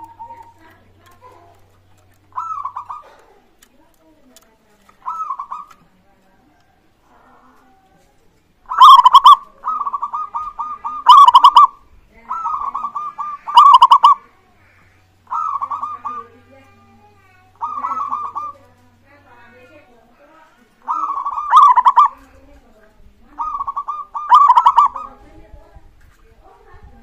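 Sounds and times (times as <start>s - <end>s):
dove cooing: 0.0s - 4.2s, 4.9s - 25.6s.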